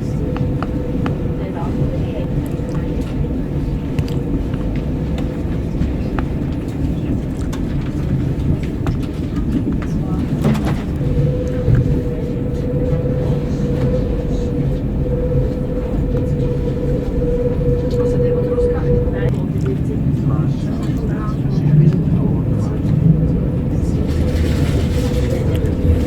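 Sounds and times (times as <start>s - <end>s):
steady whine: 0.0s - 26.0s
train clicks and knocks: 0.0s - 26.0s
train rumbling: 0.0s - 26.0s.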